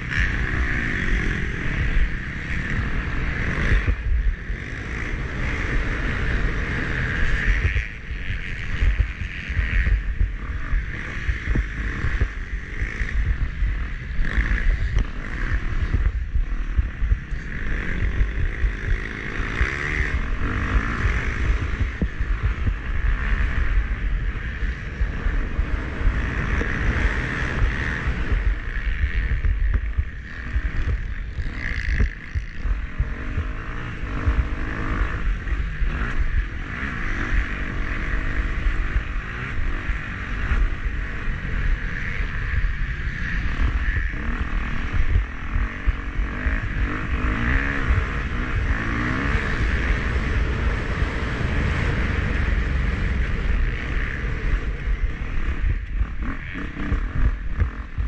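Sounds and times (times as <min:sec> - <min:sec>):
dirt bike engine revving: 0:00.0 - 0:58.0
wind rumble on microphone: 0:00.0 - 0:58.0.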